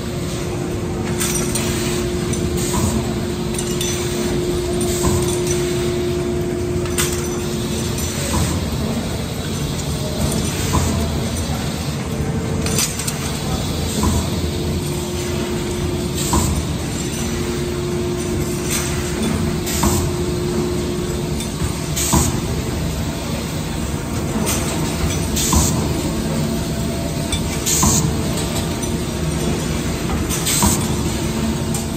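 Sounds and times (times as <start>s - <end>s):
machinery mechanical hum: 0.0s - 31.9s.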